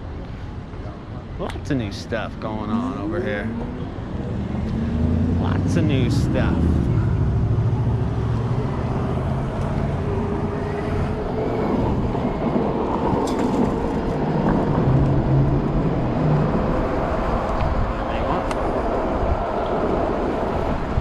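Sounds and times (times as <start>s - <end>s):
city traffic noise: 0.0s - 21.0s
motor vehicles humming: 0.0s - 21.0s.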